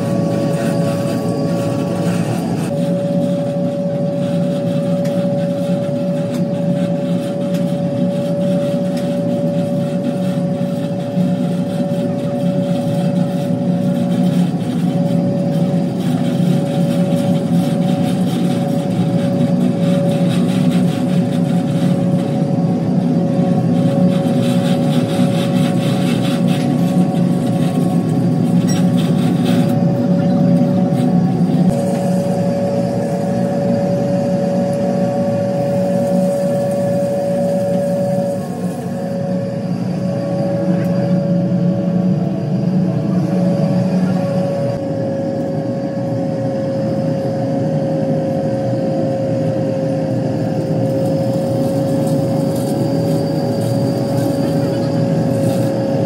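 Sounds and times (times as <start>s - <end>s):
motor droning with whine: 0.0s - 56.0s.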